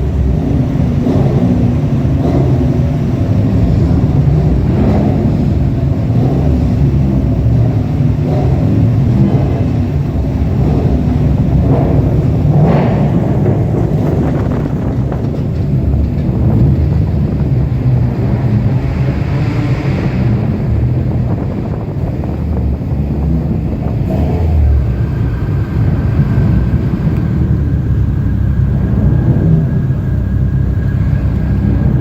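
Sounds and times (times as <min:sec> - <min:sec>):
car engines and exhausts rumbling: 0:00.0 - 0:32.0.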